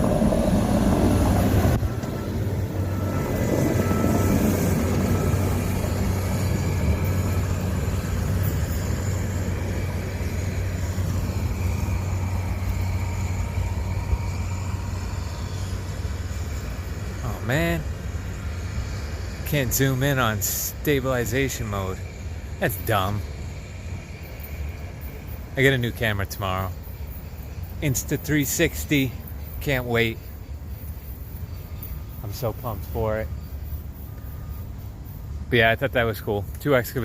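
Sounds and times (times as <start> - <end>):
excavator diesel engines droning: 0.0 - 37.0.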